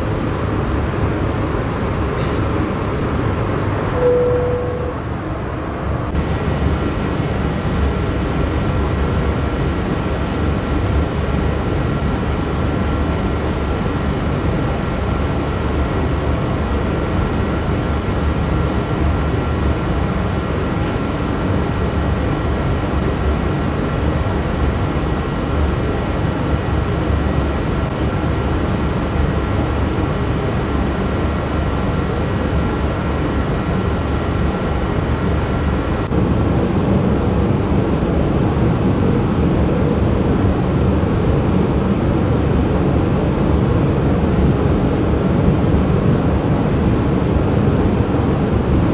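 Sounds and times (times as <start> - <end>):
faint steady whines: 0.0 - 48.9
jet cabin air and engine noise: 0.0 - 48.9.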